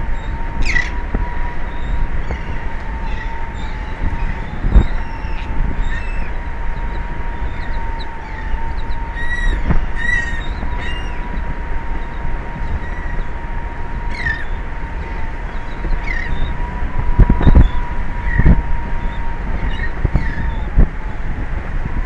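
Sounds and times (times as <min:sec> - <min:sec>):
seabirds calling: 0:00.0 - 0:21.5
constant high hum: 0:00.0 - 0:22.0
wind rumble on microphone: 0:00.0 - 0:22.0.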